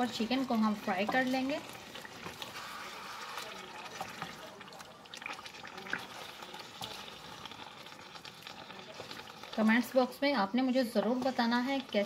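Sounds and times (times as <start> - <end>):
chicken frying in hot oil: 0.0 - 12.0
oil popping and crackling: 0.0 - 12.0.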